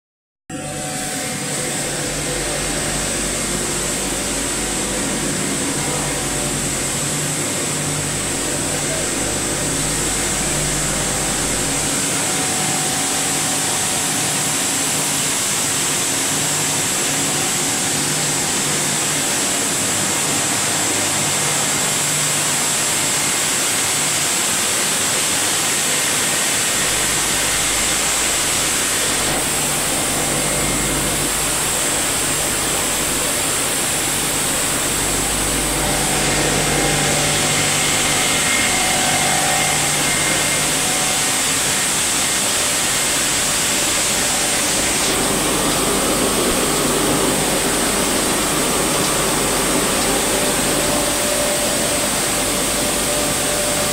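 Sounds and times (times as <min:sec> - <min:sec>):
low hum: 0:00.5 - 0:22.7, 0:26.3 - 0:53.9
mill machinery drone and hiss: 0:00.5 - 0:53.9.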